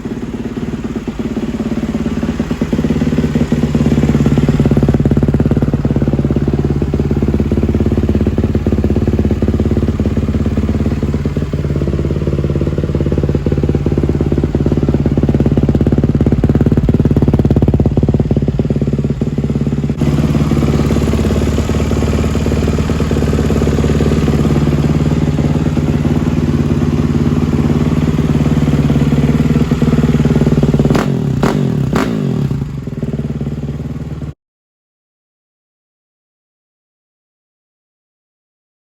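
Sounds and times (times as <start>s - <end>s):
motorcycle engine idling: 0.0s - 34.4s.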